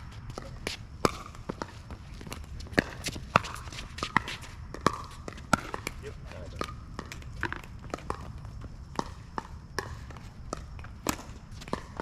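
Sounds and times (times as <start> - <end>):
ball bouncing on court: 0.0 - 12.0.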